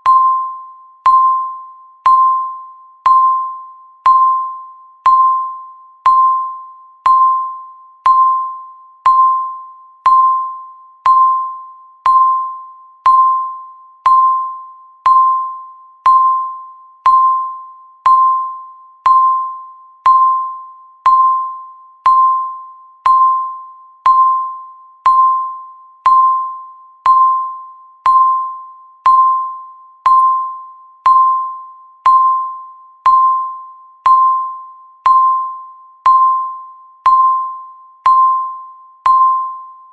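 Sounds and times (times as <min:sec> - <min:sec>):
ringing electronic ding: 0:00.0 - 0:39.9.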